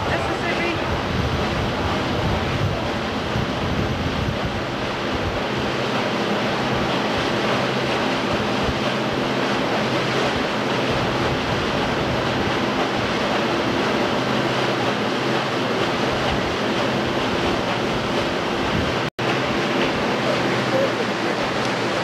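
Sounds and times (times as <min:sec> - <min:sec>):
wind noise on microphone: 0:00.0 - 0:20.3
river water rushing: 0:00.0 - 0:22.0.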